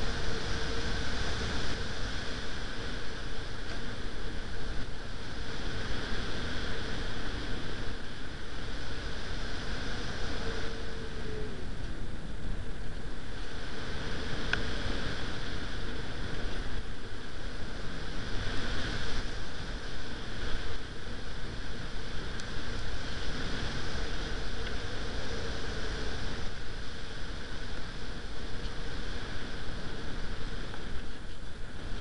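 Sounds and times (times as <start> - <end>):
faint steady hum: 0.0 - 32.0
wind noise on microphone: 0.0 - 32.0.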